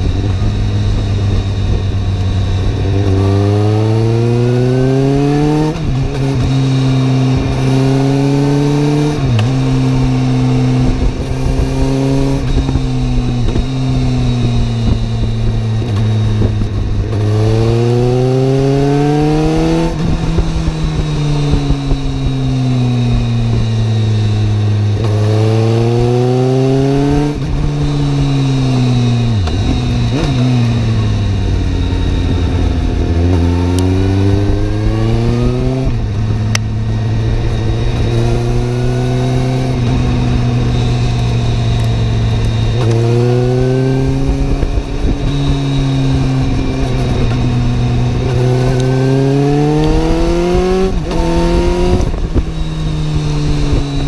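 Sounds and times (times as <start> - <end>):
motorcycle engine accelerating: 0.0 - 54.0
steady rushing noise: 0.0 - 54.0.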